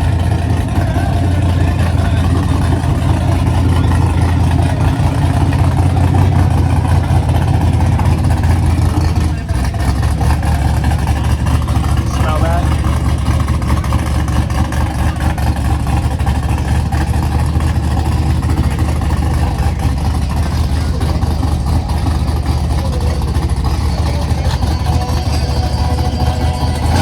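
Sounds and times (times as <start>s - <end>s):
large vehicle engine running: 0.0s - 27.0s.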